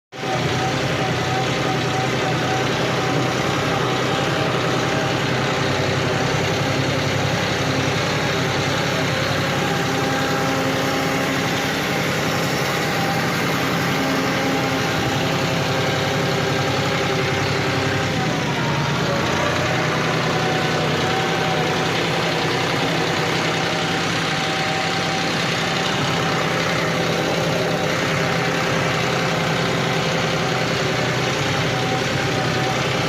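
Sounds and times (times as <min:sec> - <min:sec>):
tractor diesel engine idling: 0:00.1 - 0:33.0.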